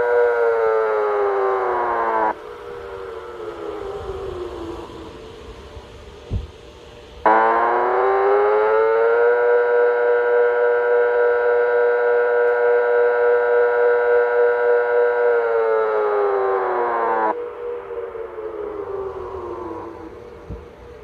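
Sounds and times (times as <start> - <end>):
civil defense siren wailing: 0.0 - 21.0.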